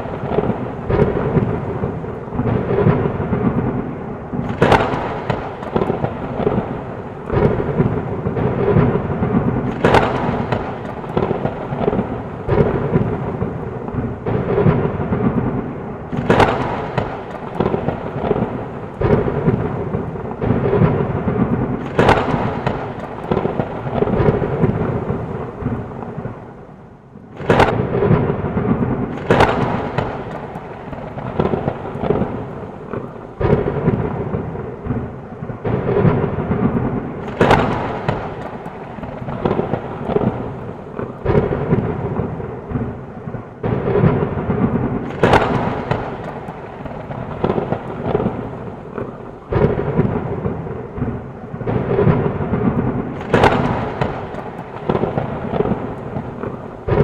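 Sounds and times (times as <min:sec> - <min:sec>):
sharp thunder cracks: 0:00.0 - 0:26.7, 0:27.3 - 0:57.0
heavy rain: 0:00.0 - 0:57.0
rolling thunder: 0:00.0 - 0:57.0.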